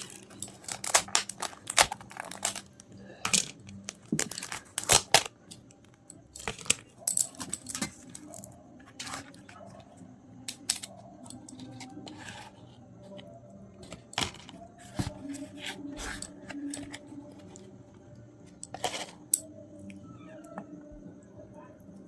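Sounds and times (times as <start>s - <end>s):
food being handled: 0.0s - 9.8s, 10.6s - 17.9s, 18.5s - 19.5s.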